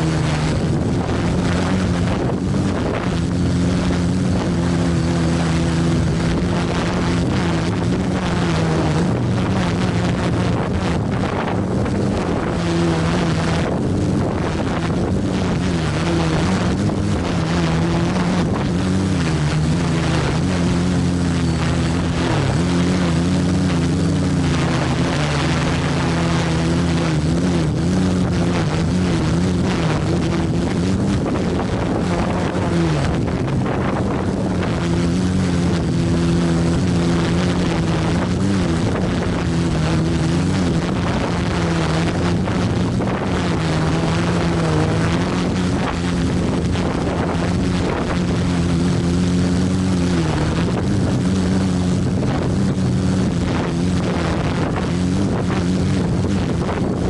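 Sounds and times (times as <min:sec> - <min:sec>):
drone propellers whining: 0:00.0 - 0:57.0
wind buffeting microphone: 0:00.0 - 0:57.0.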